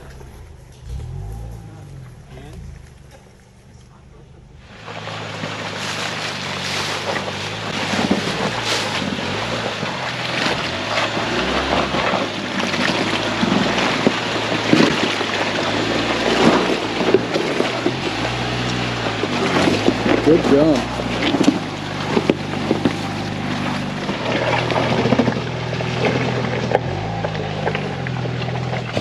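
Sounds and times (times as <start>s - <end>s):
truck engine revving uphill: 0.0s - 29.0s
tyres crunching over rocks: 4.8s - 29.0s.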